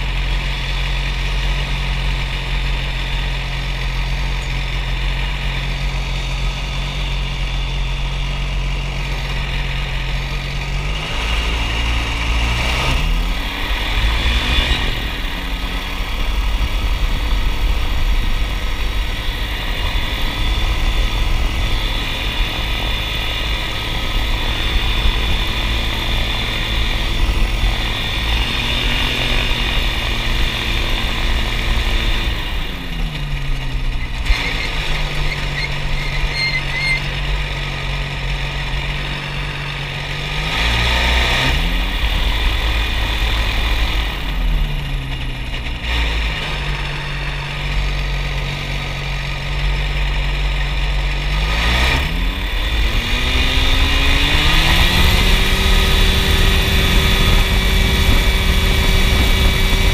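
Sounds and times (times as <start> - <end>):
light aircraft engine revving: 0.0 - 59.9.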